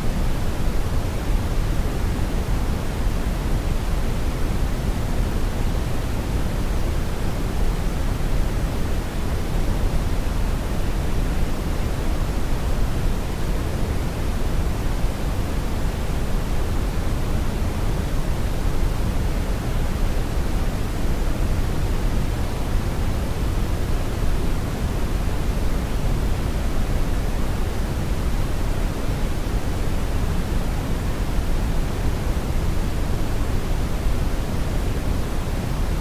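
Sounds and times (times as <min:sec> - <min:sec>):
brown noise hiss: 0:00.0 - 0:36.0.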